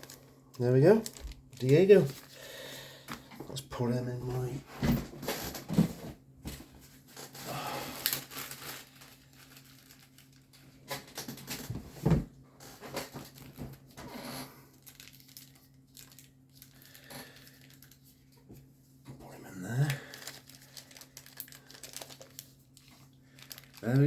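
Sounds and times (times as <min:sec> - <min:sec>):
packaging crinkling and rustling: 0:00.0 - 0:03.2, 0:06.5 - 0:18.7, 0:19.5 - 0:24.0.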